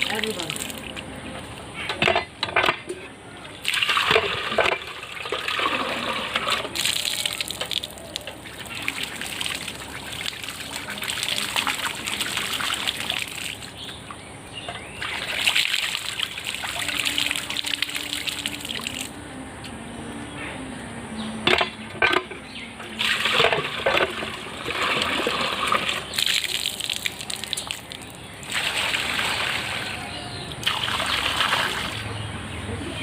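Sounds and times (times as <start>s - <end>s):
water trickling and splashing: 0.0s - 2.8s, 3.5s - 19.2s, 21.5s - 33.0s.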